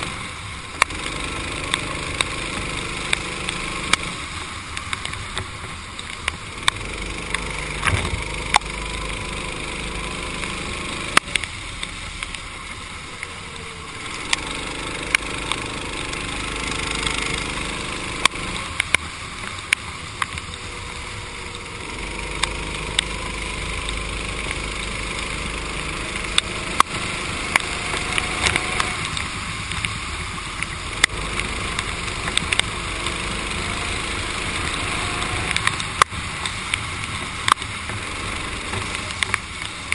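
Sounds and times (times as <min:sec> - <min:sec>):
kart engine revving: 0:00.0 - 0:04.4, 0:06.4 - 0:39.9
sharp ticks: 0:00.8 - 0:12.4, 0:14.0 - 0:39.9.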